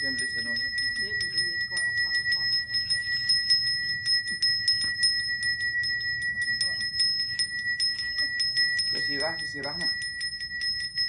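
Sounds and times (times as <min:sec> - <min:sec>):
handbell ringing: 0:00.0 - 0:11.0.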